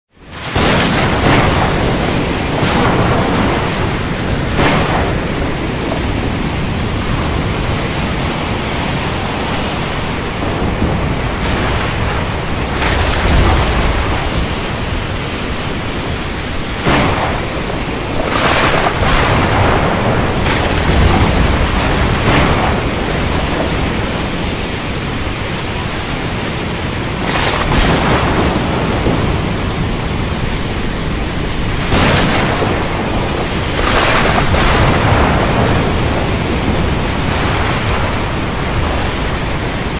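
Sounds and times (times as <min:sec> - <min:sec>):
rain: 0:00.1 - 0:39.9
waves surging and breaking: 0:00.1 - 0:39.9
wind: 0:00.1 - 0:39.9
low thunder rumbling: 0:00.3 - 0:39.9.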